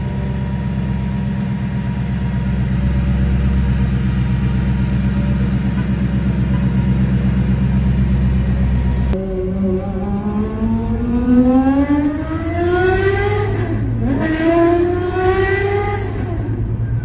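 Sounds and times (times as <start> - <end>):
car engine accelerating hard: 0.0 - 16.8.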